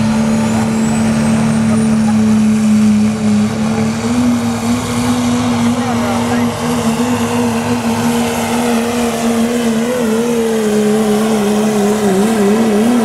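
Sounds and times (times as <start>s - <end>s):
diesel truck engine full throttle: 0.0s - 13.0s.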